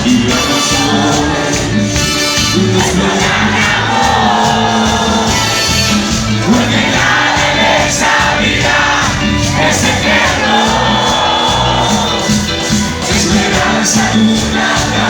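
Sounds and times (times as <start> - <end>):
crowd singing and shouting: 0.0 - 15.0
live cumbia band playing: 0.0 - 15.0.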